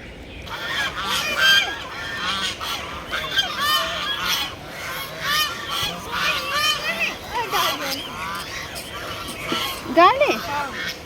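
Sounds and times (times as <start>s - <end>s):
waterfowl calling: 0.4s - 11.0s.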